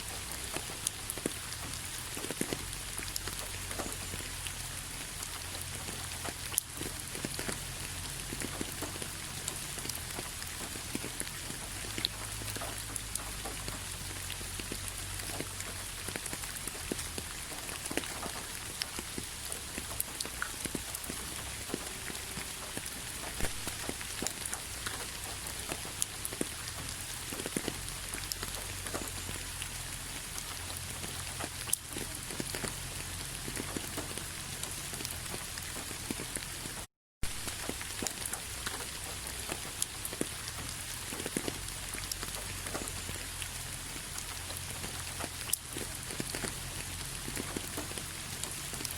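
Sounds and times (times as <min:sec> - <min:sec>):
raindrop taps on a surface: 0:00.0 - 0:29.7, 0:30.4 - 0:48.9
steady rain: 0:00.0 - 0:48.9.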